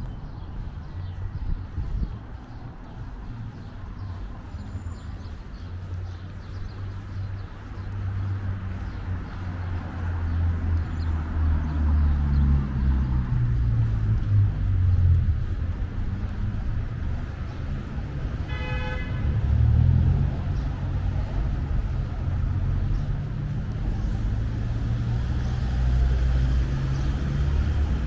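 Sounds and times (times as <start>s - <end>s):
motor vehicle engine rumble: 0.0s - 28.0s.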